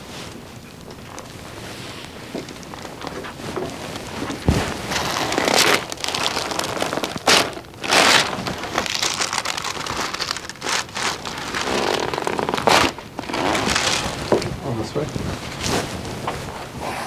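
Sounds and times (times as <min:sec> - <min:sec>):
clothing rustling on a table: 0:00.0 - 0:17.0.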